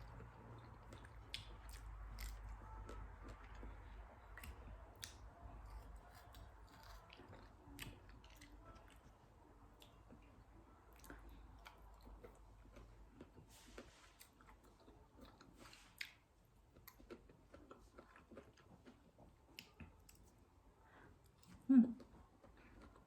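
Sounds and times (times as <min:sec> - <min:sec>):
person chewing: 0:00.0 - 0:09.1, 0:09.8 - 0:20.4, 0:21.2 - 0:23.0.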